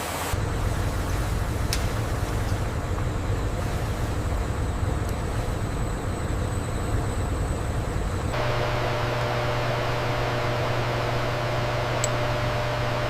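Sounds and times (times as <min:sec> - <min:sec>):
low mechanical rumble: 0:00.3 - 0:13.0.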